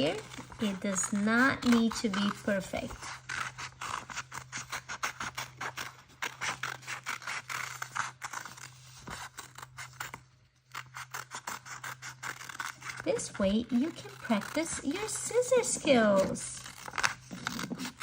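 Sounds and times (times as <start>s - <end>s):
scissors snipping paper: 0.0s - 18.0s.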